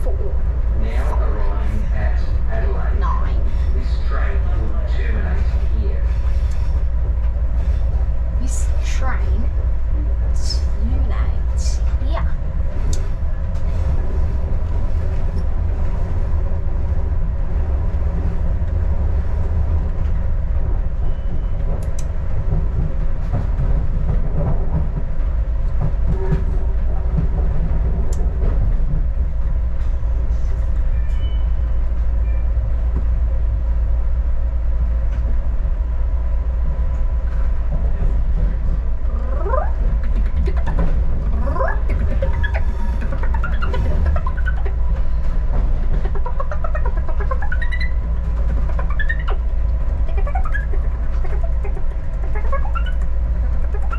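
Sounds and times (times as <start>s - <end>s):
diesel railcar rumbling: 0.0s - 53.9s.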